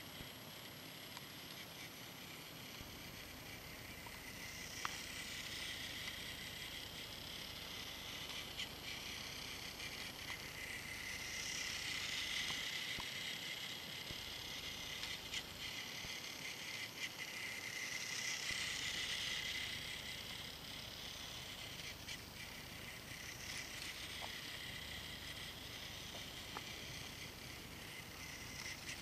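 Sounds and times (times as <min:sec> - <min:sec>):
toy train motor whirring: 0:00.0 - 0:29.0.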